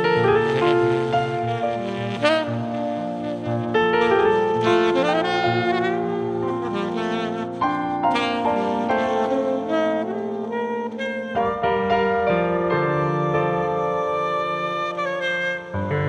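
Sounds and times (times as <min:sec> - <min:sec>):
keyboard piano chords: 0:00.0 - 0:16.0
tenor saxophone: 0:00.0 - 0:16.0.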